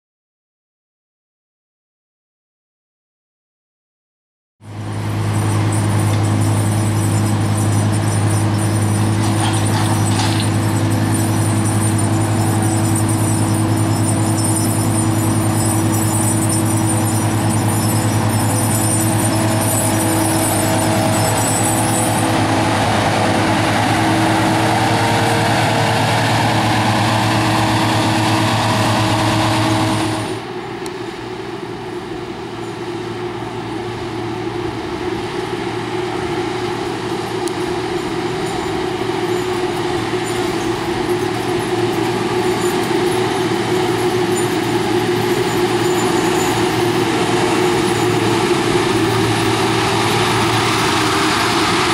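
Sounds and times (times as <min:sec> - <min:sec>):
diesel engines running: 0:04.6 - 0:51.9
machine running: 0:04.7 - 0:51.9.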